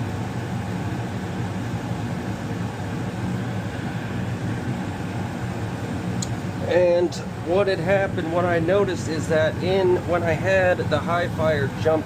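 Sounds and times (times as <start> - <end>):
gas furnace hum and rush: 0.0 - 12.0.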